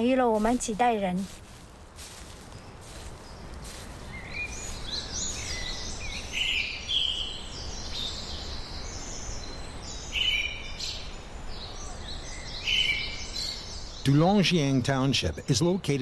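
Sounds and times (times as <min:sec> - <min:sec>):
forest birds singing and chirping: 0:02.4 - 0:16.0.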